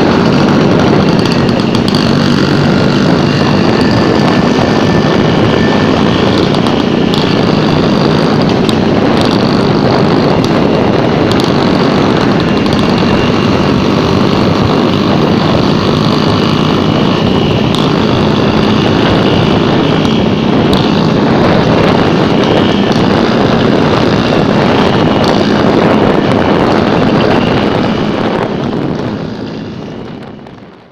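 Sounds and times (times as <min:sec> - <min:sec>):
scooter engine running: 0:00.0 - 0:30.9.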